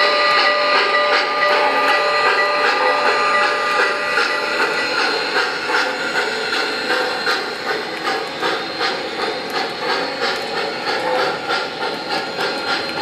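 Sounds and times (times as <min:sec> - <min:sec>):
model train clicking on track: 0:00.0 - 0:13.0.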